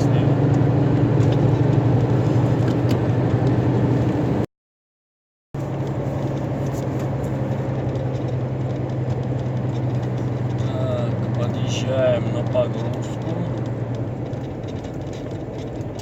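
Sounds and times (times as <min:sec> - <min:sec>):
road noise: 0:00.0 - 0:04.5, 0:05.6 - 0:16.0
truck diesel engine: 0:00.0 - 0:04.5, 0:05.6 - 0:16.0.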